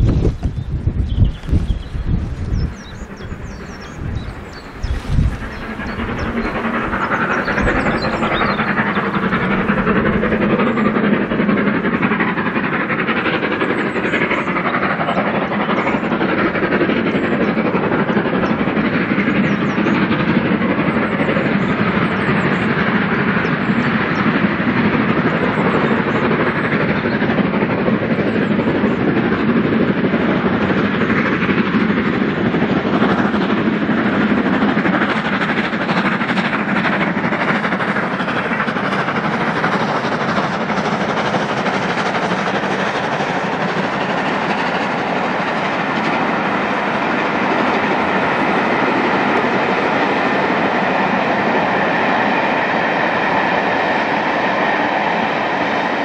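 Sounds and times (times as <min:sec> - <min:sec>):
steam locomotive exhaust beating: 0:00.0 - 0:56.0.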